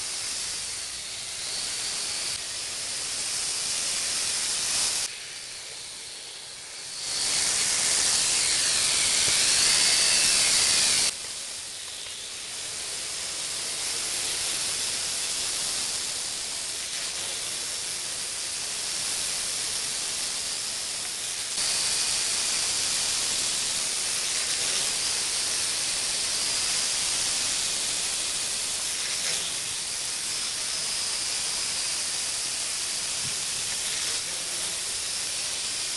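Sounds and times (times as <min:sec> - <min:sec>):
quadcopter motors whining: 0:00.0 - 0:35.9.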